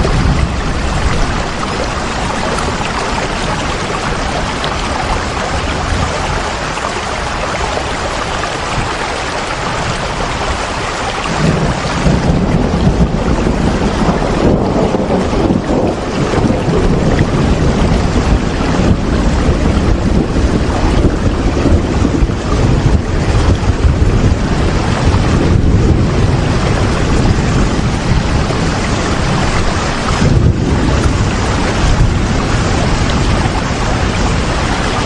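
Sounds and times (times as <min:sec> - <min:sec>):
deep rumble: 0:00.0 - 0:35.0
heavy rain: 0:00.0 - 0:35.0.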